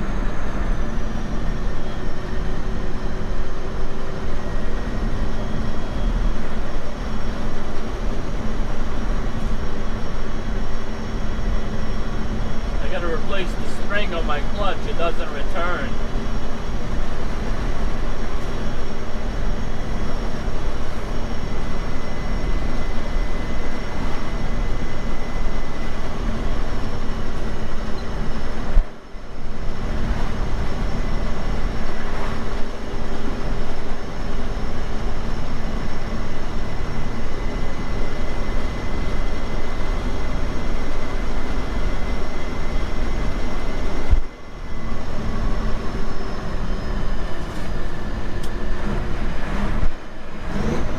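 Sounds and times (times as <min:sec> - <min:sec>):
faint steady whines: 0:00.0 - 0:50.9
truck engine and road noise: 0:00.0 - 0:50.9.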